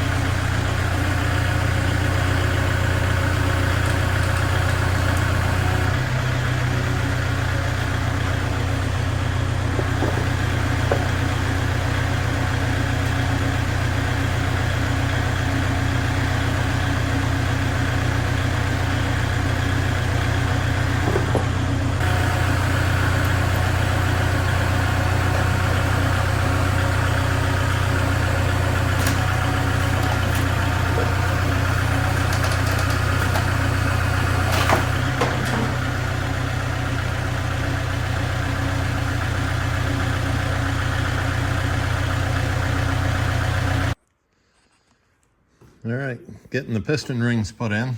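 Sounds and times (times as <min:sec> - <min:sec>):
low machine hum: 0:00.0 - 0:40.1.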